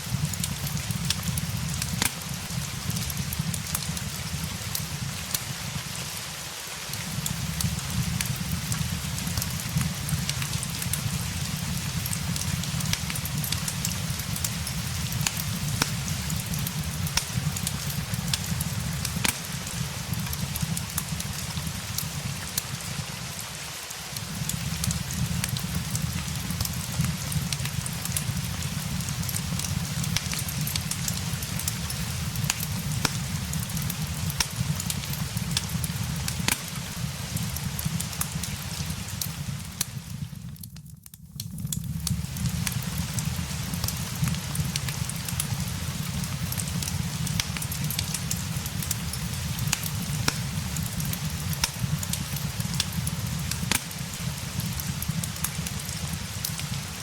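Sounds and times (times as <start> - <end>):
fireplace crackling: 0.0 - 57.0
steady rain: 0.0 - 57.0.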